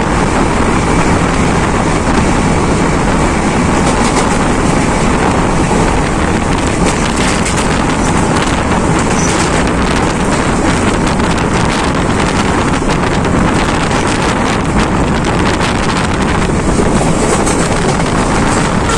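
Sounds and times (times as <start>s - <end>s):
train wheels running on rails: 0.0s - 18.9s
wind buffeting microphone: 0.0s - 18.9s.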